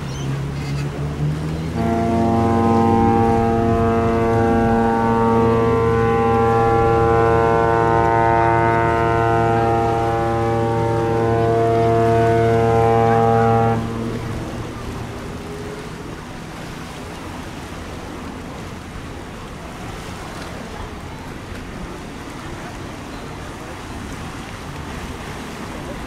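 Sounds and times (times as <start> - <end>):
sea noise: 0.0 - 26.0
wind: 0.0 - 26.0
ship horn deep blast: 0.4 - 26.0.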